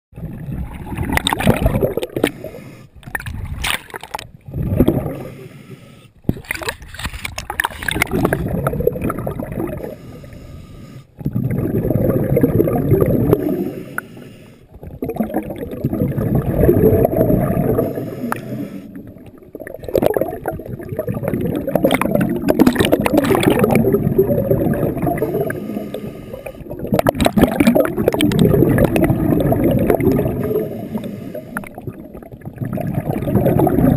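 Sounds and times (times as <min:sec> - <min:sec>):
muffled underwater sloshing: 0:00.2 - 0:33.9.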